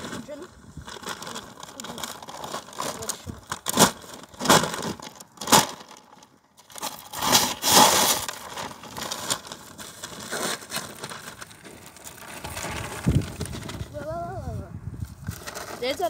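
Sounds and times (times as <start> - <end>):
paper bag tearing and crumpling: 0.0 - 14.1, 15.0 - 16.0.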